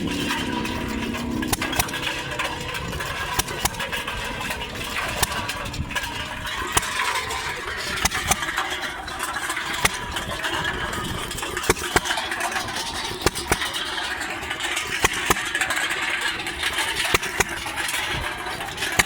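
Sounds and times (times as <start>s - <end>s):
engine popping: 0.0s - 19.0s
steady mechanical din: 0.0s - 19.0s.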